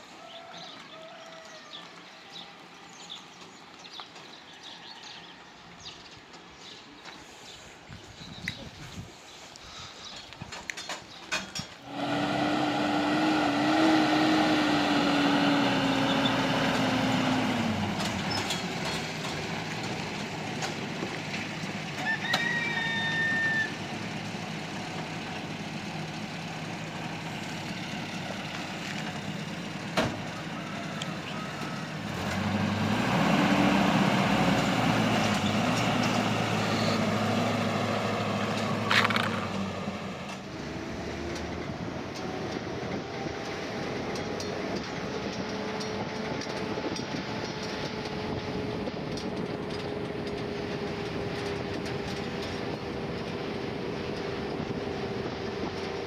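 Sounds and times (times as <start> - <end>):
engine running: 10.8 - 56.0.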